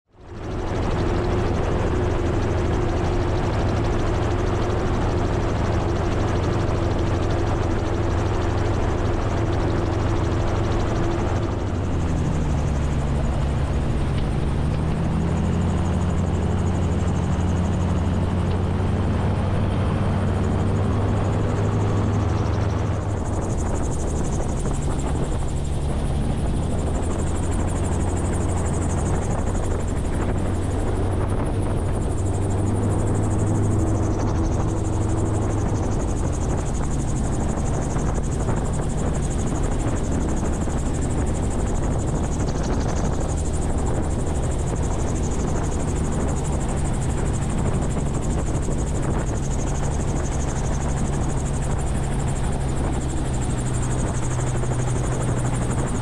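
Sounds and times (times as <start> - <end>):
aircraft engine and propeller: 0.1 - 56.0.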